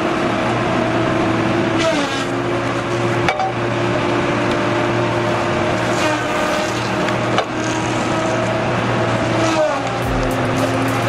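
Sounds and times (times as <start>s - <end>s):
diesel engine cutting wood: 0.0s - 11.0s.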